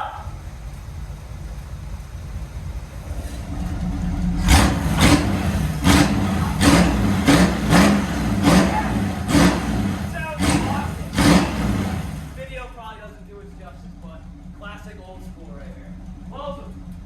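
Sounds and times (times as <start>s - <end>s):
car engine idle rumble: 0.0s - 17.0s
engine throttle blips: 0.0s - 17.0s.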